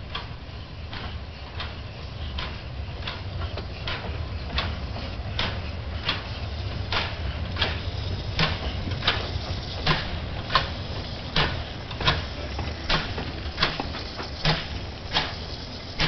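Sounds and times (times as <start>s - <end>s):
steam locomotives chuffing: 0.0s - 16.0s.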